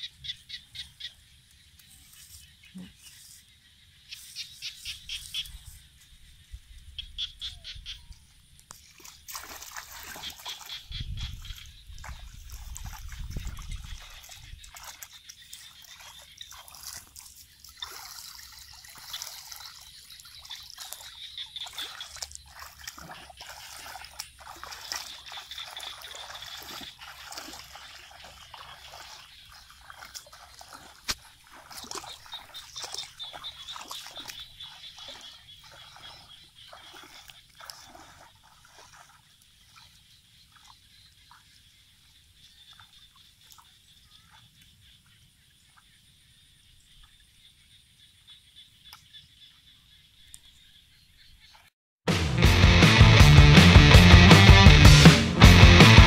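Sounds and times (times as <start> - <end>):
feet wading through water: 0.0 - 45.9.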